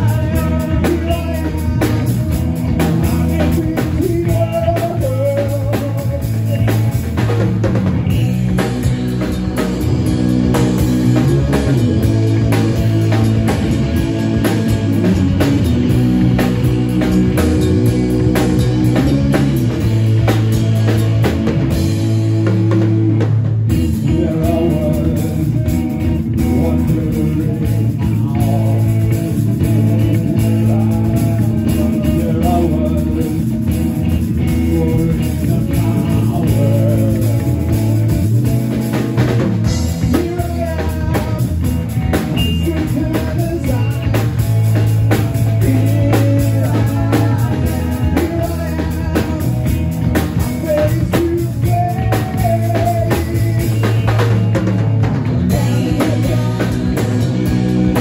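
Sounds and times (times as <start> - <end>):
drum kit: 0.0 - 58.0
electric bass: 0.0 - 58.0
electric guitars: 0.0 - 58.0.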